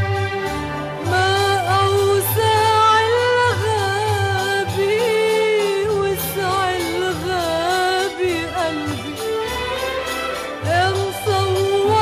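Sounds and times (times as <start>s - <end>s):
pulsing bass accompaniment: 0.0s - 12.0s
woman singing ornamented line: 1.0s - 10.0s, 10.6s - 12.0s.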